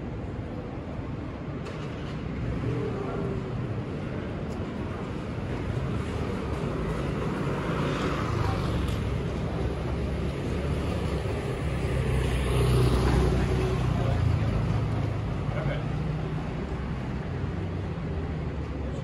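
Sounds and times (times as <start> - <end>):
city traffic noise: 0.0 - 19.0.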